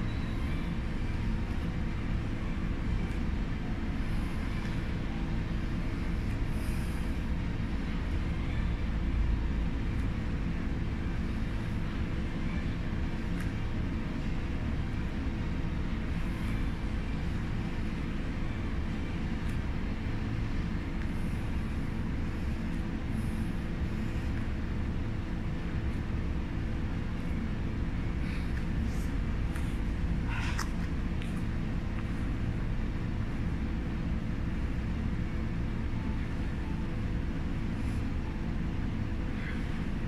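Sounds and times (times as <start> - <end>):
constant low hum: 0.0 - 40.0
steady low rumble: 0.0 - 40.0.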